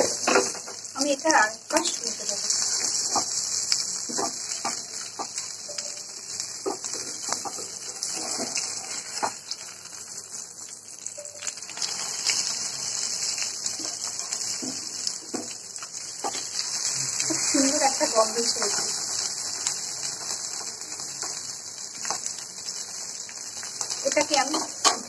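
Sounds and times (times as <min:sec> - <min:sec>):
food sizzling in frying pan: 0:00.0 - 0:25.0.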